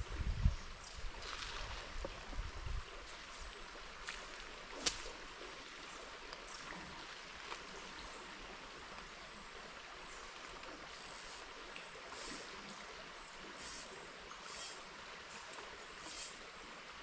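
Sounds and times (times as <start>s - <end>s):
river water rushing: 1.2s - 17.0s.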